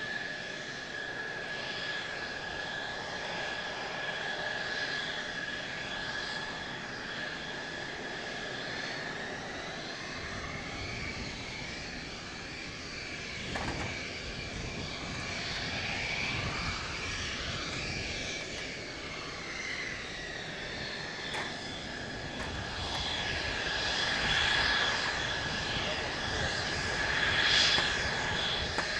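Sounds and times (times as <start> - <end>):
jet engine rumble with whine: 0.0 - 28.9.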